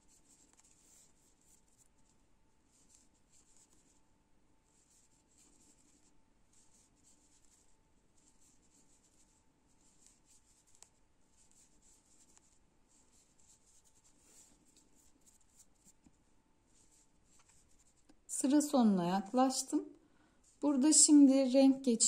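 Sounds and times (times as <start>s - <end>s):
yarn rustling with crochet hook: 0.0s - 4.0s, 4.6s - 22.0s.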